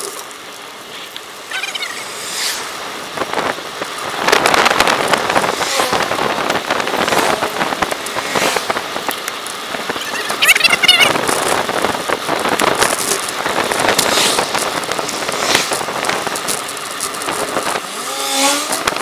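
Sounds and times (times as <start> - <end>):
wind buffeting microphone: 2.0 - 19.0.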